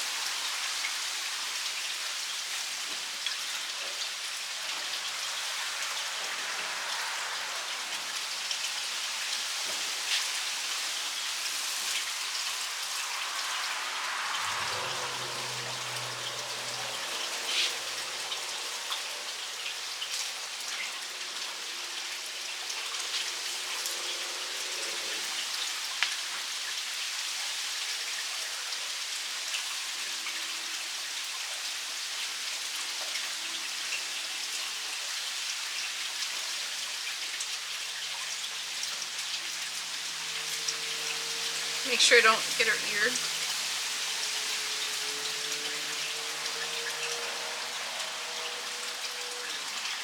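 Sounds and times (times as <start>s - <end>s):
rain hiss: 0.0s - 50.0s
small rain taps: 0.1s - 26.8s, 35.8s - 50.0s.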